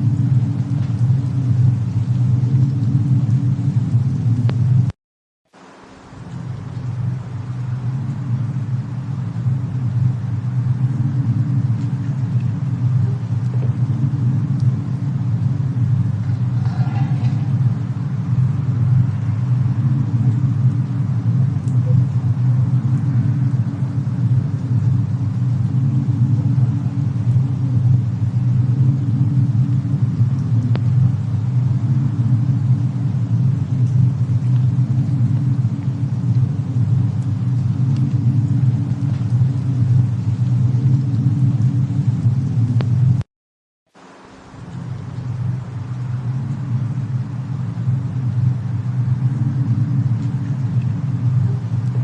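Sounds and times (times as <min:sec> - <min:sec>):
deep rumble: 0:00.0 - 0:05.0, 0:05.6 - 0:43.3, 0:44.5 - 0:52.0
faint fire crackles: 0:00.0 - 0:43.2, 0:43.9 - 0:52.0.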